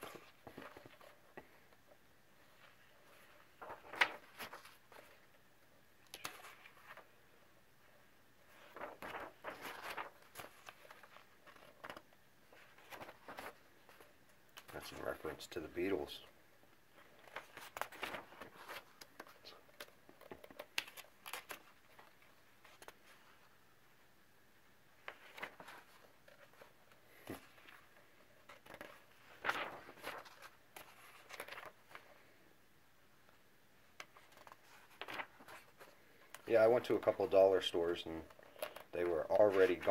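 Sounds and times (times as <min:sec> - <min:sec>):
book page turning: 0:00.0 - 0:01.8, 0:02.4 - 0:05.3, 0:06.1 - 0:07.1, 0:08.4 - 0:16.0, 0:17.0 - 0:23.5, 0:25.0 - 0:32.2, 0:34.0 - 0:39.9.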